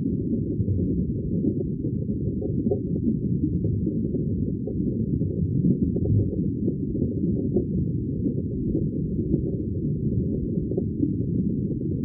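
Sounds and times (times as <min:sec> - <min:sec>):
underwater stream rumble: 0:00.0 - 0:12.0.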